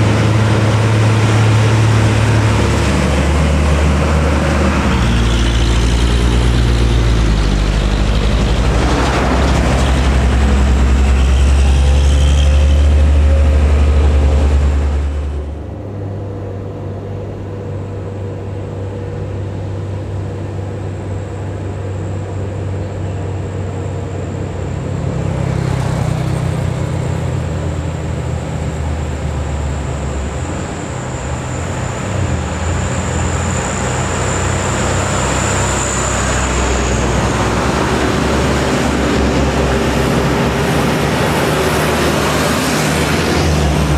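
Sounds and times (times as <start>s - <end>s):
diesel truck engines labouring: 0.0s - 43.9s
truck passing: 0.0s - 43.9s.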